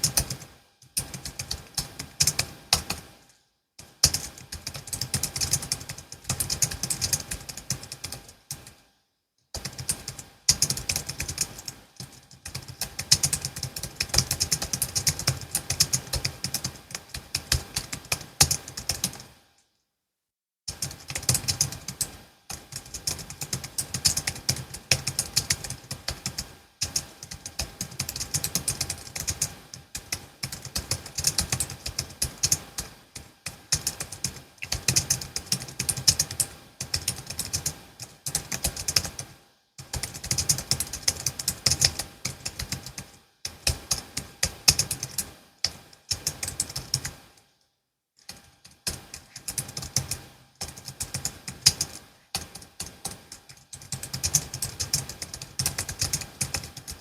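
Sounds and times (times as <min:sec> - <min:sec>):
fast keyboard typing: 0:00.0 - 0:08.8, 0:09.6 - 0:19.4, 0:20.7 - 0:47.3, 0:48.2 - 0:57.0.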